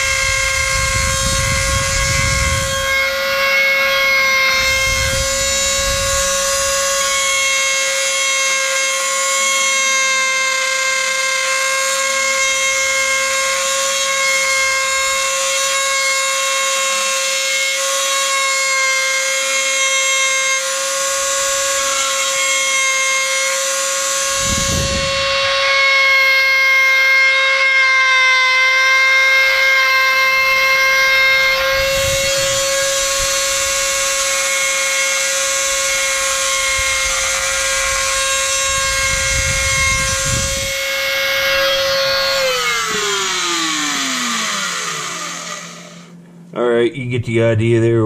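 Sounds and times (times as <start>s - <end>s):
rotary tool grinding pipe: 0.0s - 46.2s.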